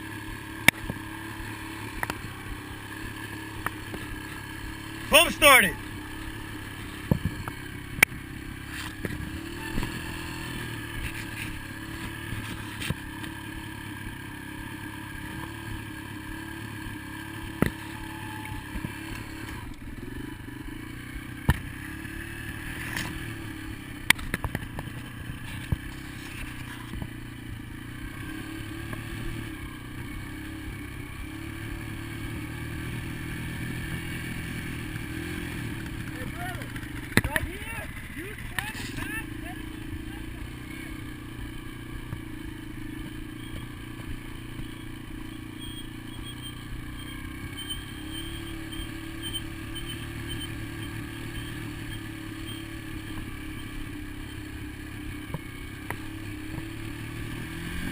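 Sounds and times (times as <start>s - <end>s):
dirt bike engine running: 0.0s - 57.9s.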